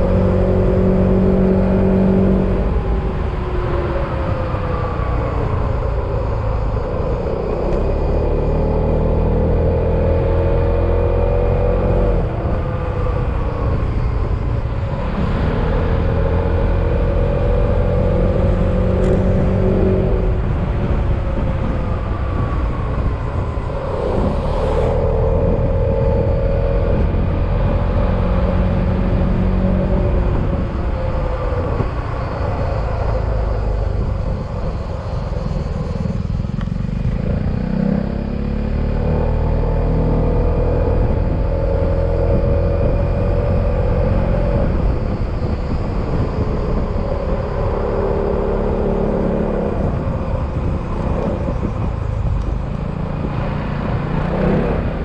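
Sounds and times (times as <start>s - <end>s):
road rumble: 0.0s - 55.0s
wind: 0.0s - 55.0s.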